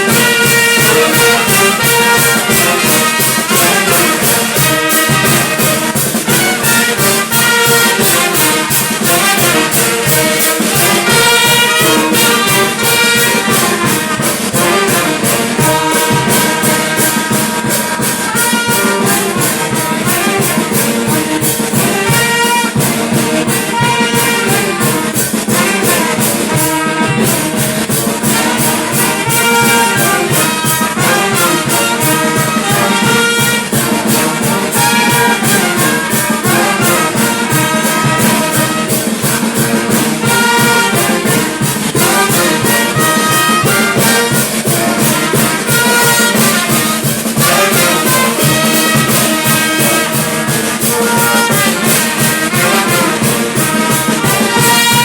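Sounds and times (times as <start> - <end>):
percussion beat: 0.0 - 55.0
trumpets and trombones: 0.0 - 55.0.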